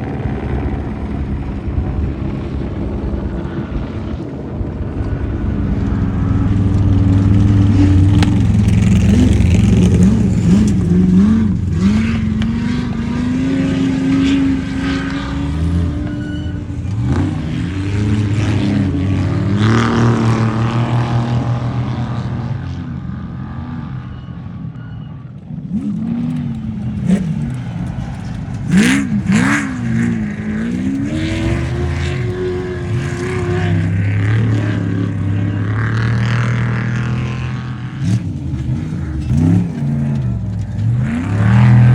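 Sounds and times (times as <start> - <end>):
race vehicle engines revving: 0.0 - 41.9.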